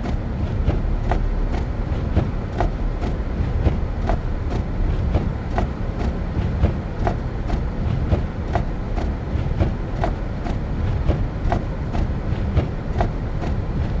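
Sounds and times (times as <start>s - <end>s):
car cabin rumble: 0.0s - 14.0s.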